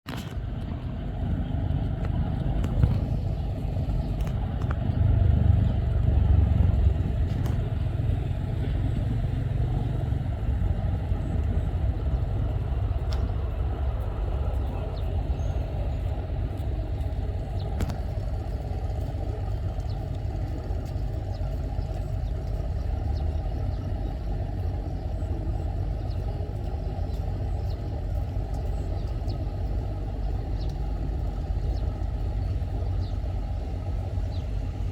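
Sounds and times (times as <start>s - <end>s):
boat engine rumble: 0.0s - 34.9s.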